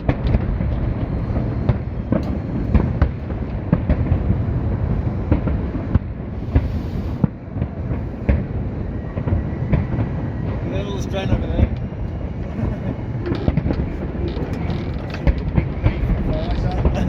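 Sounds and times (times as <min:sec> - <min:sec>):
crackling hiss: 0:00.0 - 0:17.0
fireworks bangs: 0:00.0 - 0:17.0
low rumble of echoing bursts: 0:00.0 - 0:17.0.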